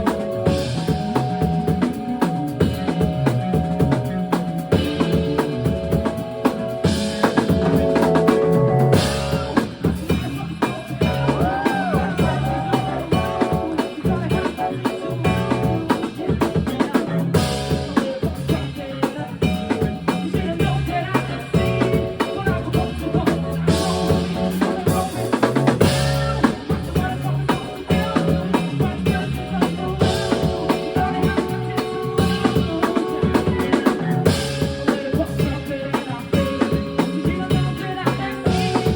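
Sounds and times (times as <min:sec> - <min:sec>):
drum kit with snare and rimshots: 0:00.0 - 0:38.9
electric bass line: 0:00.0 - 0:38.9
held keyboard chords: 0:00.0 - 0:38.9.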